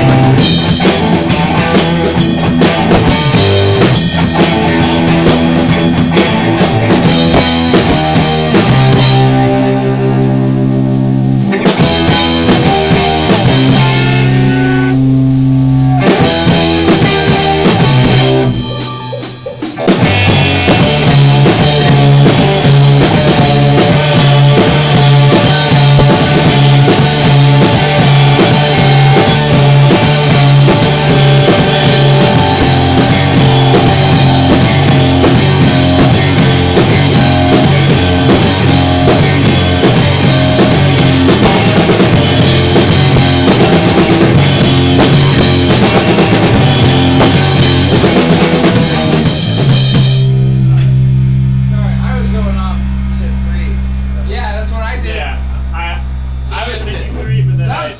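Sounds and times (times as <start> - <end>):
rock band playing loud: 0.0 - 57.9.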